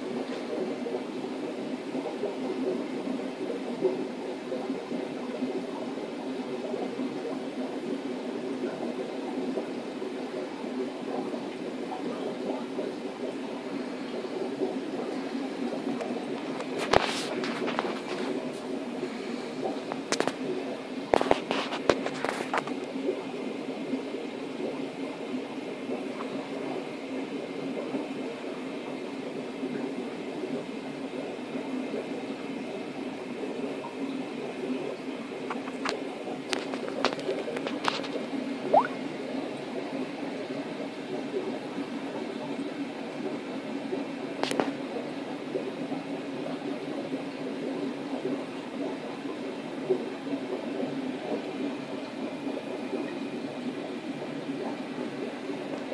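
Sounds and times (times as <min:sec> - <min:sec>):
air pump aeration drone: 0:00.0 - 0:55.9
equipment hum: 0:00.0 - 0:55.9
sponge filters bubbling: 0:00.0 - 0:55.9.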